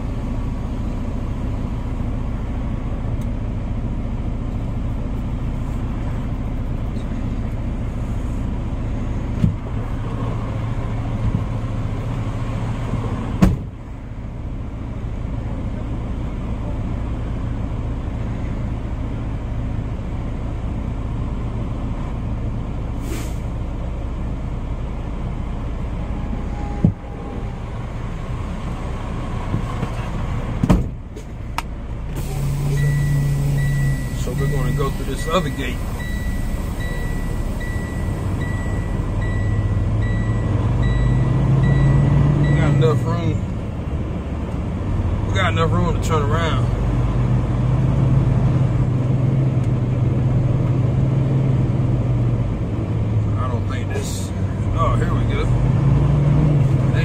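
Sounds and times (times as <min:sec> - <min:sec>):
diesel truck engine idling: 0:00.0 - 0:55.4.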